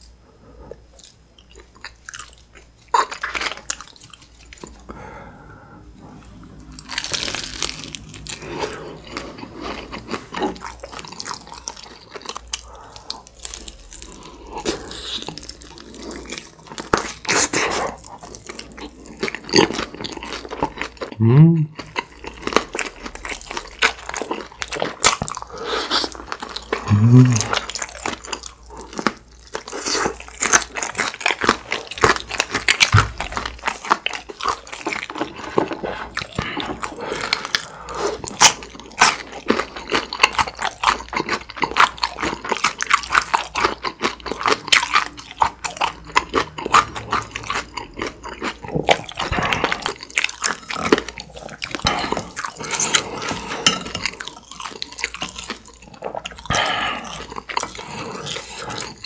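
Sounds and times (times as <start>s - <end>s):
chewing crunchy fried chicken: 0.7s - 5.3s, 6.0s - 59.0s.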